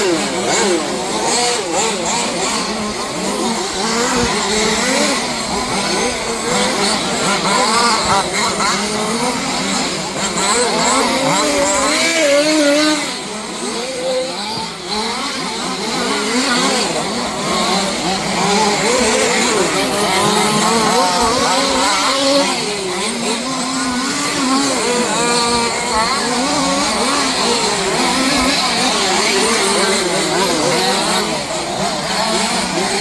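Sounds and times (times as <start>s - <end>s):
rc car engines revving: 0.0s - 33.0s.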